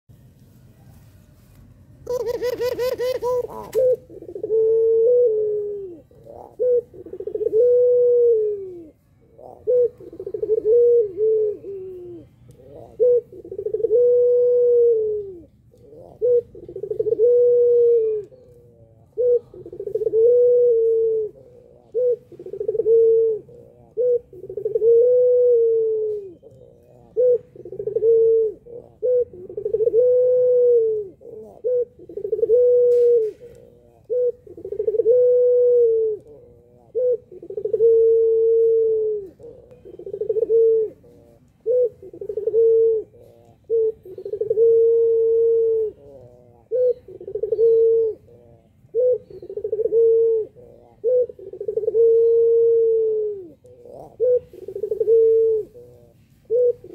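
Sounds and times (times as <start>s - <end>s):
collared dove cooing: 2.0s - 56.9s.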